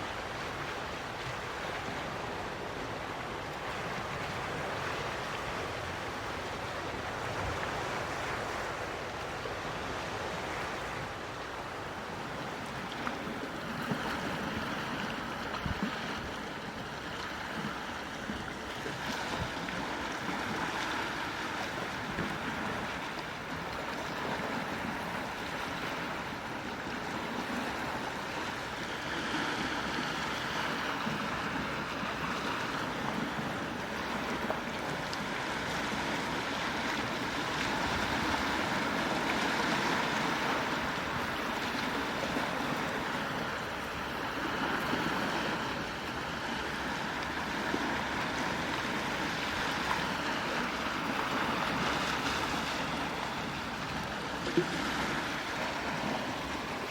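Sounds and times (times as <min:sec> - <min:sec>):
sea waves washing onto shore: 0:00.0 - 0:56.9.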